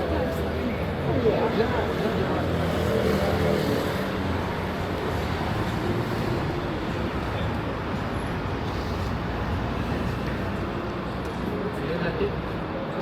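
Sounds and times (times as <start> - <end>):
city background noise: 0.0 - 13.0.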